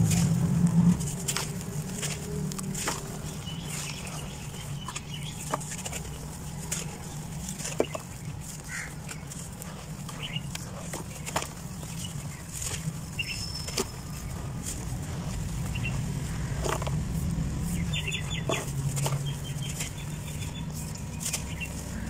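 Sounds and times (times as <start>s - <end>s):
dirt crushed by hand crunching: 0.0s - 22.0s
steady low hum: 0.0s - 22.0s.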